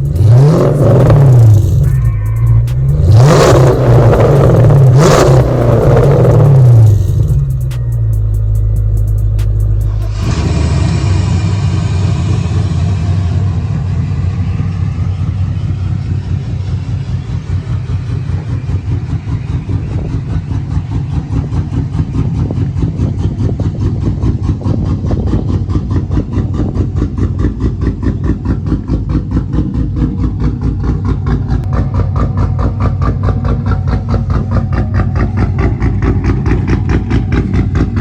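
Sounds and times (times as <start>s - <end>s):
car engine idling with choppy lope: 0.0s - 38.0s.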